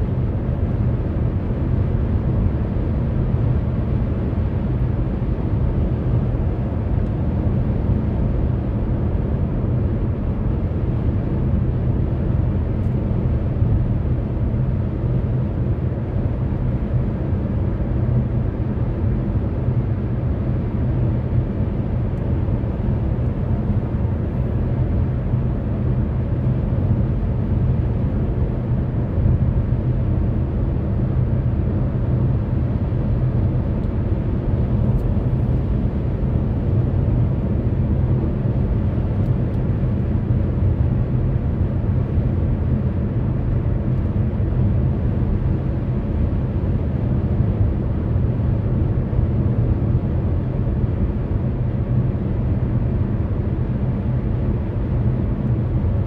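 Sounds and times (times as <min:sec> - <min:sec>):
car road and tyre noise: 0:00.1 - 0:56.0.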